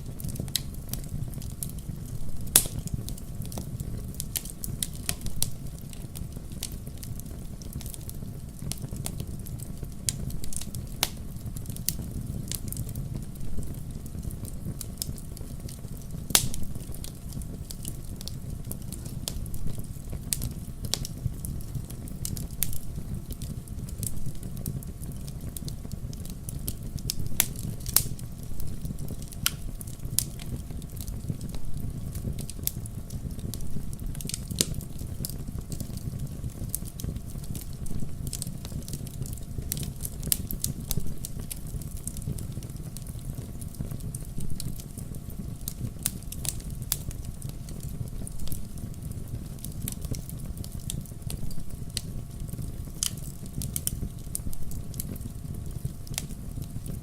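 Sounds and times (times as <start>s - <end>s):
fire popping and snapping: 0.0s - 57.0s
wood fire crackling: 0.0s - 57.0s.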